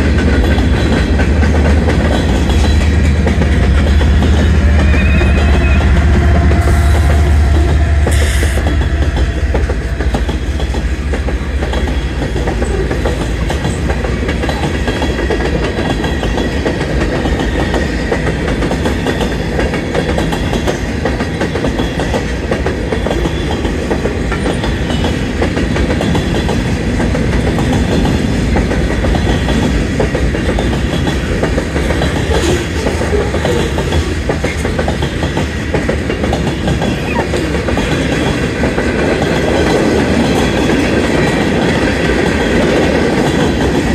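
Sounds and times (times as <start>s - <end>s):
freight train wheels rumbling: 0.0s - 43.9s
wheels clacking over rail joints: 0.0s - 43.9s.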